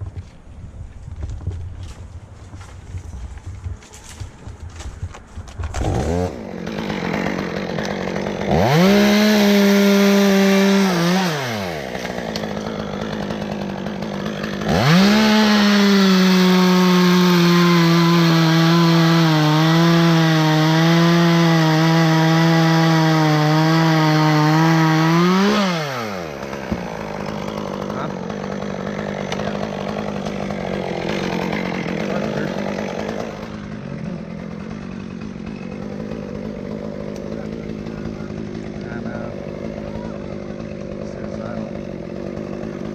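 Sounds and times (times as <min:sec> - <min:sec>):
chainsaw cutting wood: 0:01.2 - 0:42.9.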